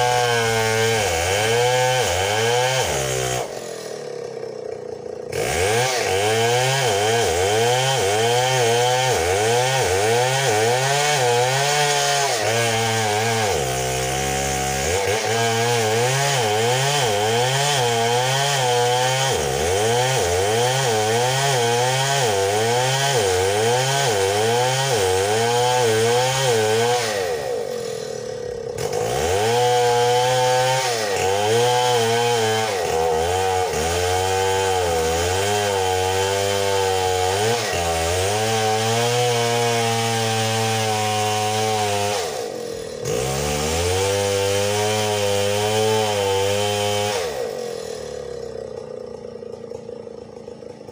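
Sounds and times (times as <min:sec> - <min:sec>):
chainsaw cutting into tree: 0:00.0 - 0:50.9.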